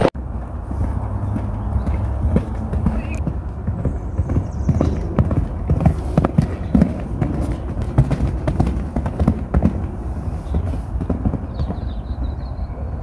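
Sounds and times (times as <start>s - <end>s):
steady low rumble: 0.0s - 13.0s
hoofbeats on sand: 0.2s - 12.6s.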